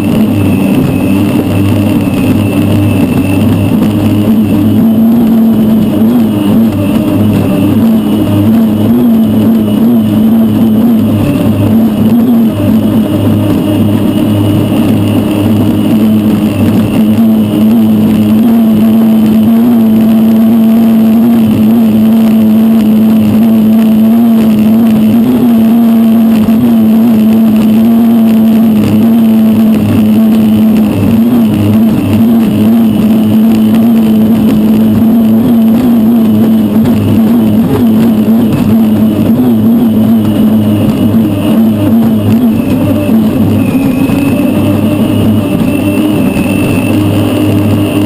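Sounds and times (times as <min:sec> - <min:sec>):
turbine engine drone: 0:00.0 - 0:48.0.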